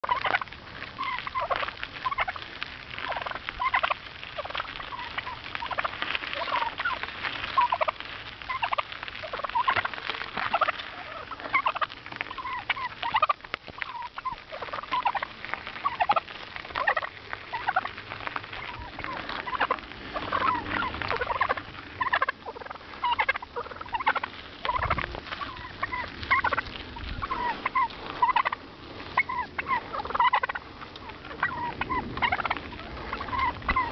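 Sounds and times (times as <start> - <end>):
wild turkeys calling: 0.0 - 33.9.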